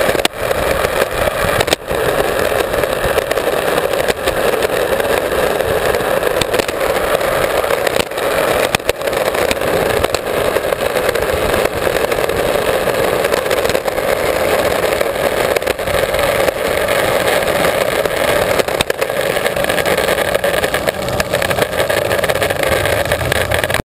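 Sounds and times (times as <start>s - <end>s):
skateboard wheels clicking over cracks: 0.0s - 23.8s
skateboard wheels rolling on asphalt: 0.0s - 23.8s.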